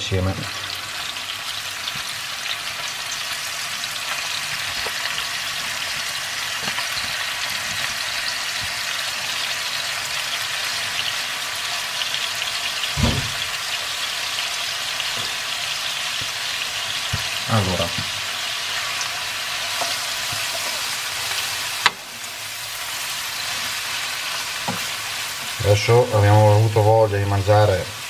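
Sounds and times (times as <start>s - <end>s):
sausage sizzling in a frying pan: 0.0s - 28.0s.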